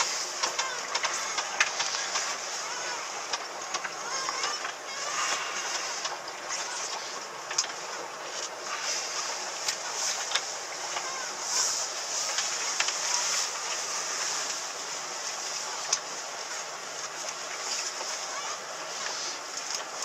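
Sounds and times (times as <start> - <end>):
motorboat running fast: 0.0 - 20.0.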